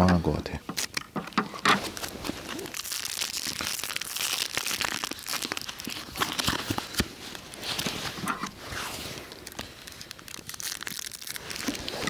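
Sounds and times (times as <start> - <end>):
plastic packaging crinkling: 0.6 - 12.0.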